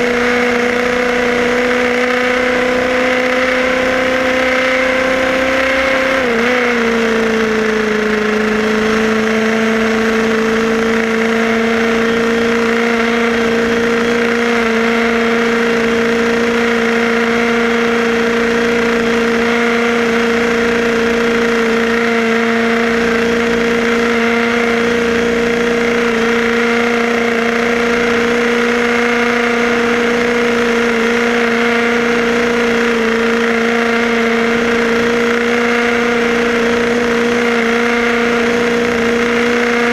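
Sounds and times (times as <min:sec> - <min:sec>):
electric motor whining: 0:00.0 - 0:39.9.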